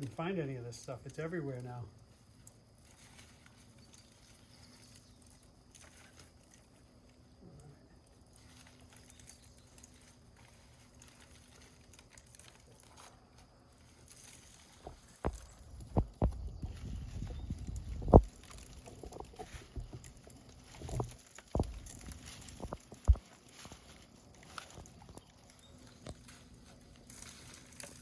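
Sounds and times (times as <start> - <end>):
faint low hum: 0.0 - 28.0
faint rustles: 0.0 - 28.0.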